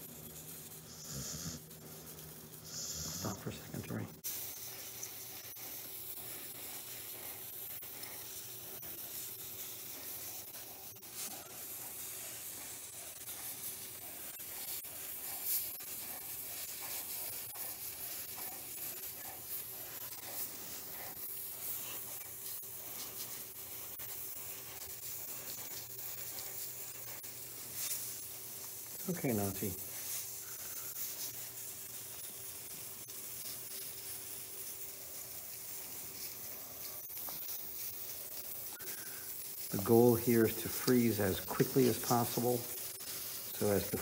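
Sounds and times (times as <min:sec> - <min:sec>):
cryo pen spraying gas hiss: 0:00.0 - 0:44.0.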